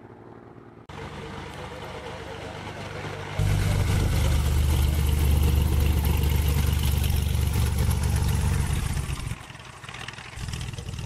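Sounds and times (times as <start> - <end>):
propeller plane engine rumbling: 0.0 - 11.0.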